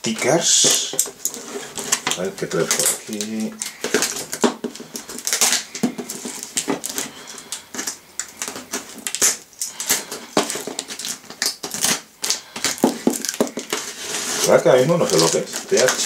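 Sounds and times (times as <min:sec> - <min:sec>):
cardboard parcel scraping and rustling: 0:00.1 - 0:16.0.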